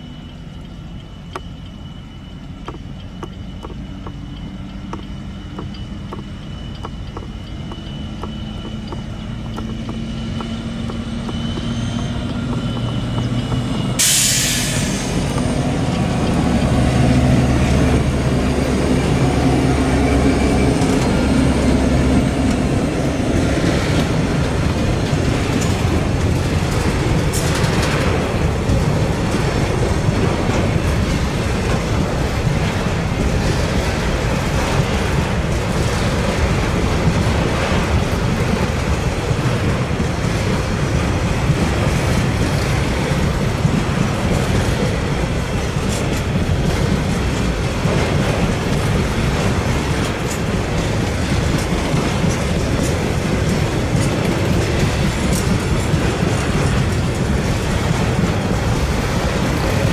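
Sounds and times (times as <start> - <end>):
freight train rumble: 0.0 - 59.9
wheels clacking over rail joints: 2.5 - 59.9.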